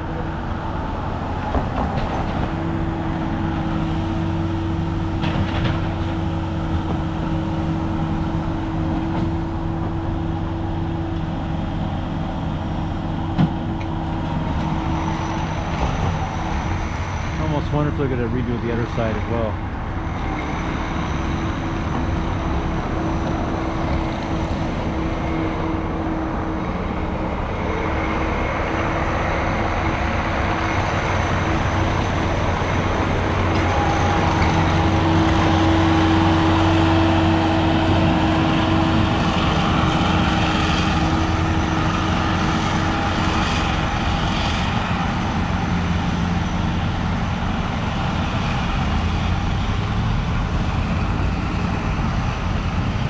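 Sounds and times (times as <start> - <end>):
engine rumbling: 0.0 - 53.0.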